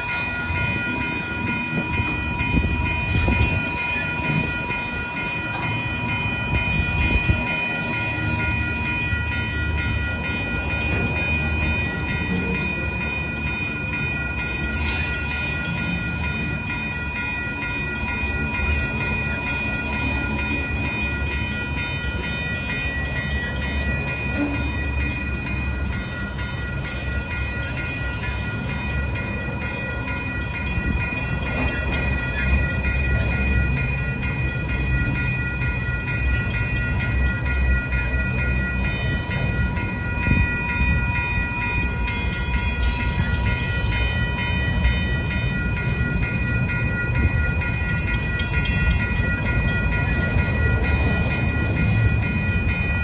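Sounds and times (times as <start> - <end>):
high multi-tone ringing: 0.0 - 53.0
steel wheels rumbling on rail: 0.0 - 53.0.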